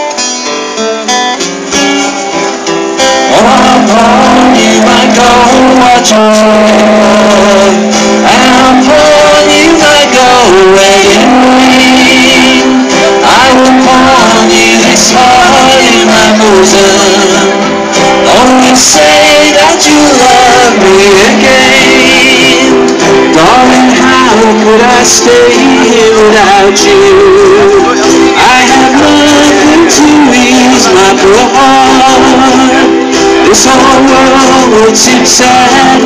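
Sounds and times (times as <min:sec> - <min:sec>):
country band playing live: 0:00.0 - 0:36.0
strummed acoustic guitar: 0:00.0 - 0:36.0.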